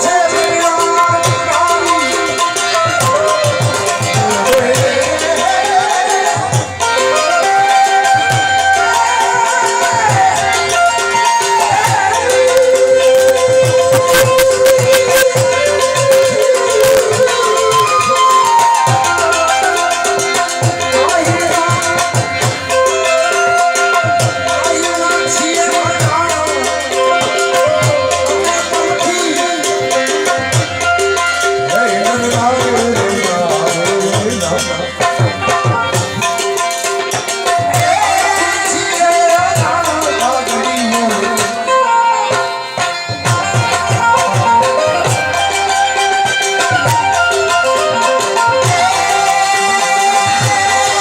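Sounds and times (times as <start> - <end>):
wavering melody line: 0.0 - 50.1
hand-drum beat: 0.0 - 51.0.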